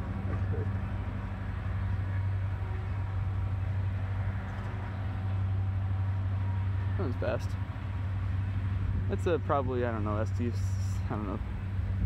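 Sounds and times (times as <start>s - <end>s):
distant freight train rumbling: 0.0s - 12.0s.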